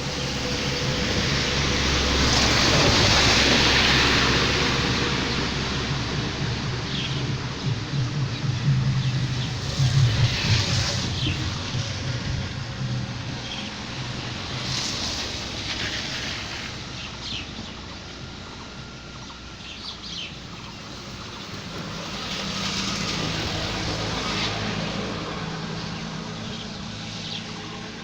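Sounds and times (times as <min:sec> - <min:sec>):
motor vehicle passing: 0:00.0 - 0:28.0
steady outdoor noise: 0:00.0 - 0:28.0.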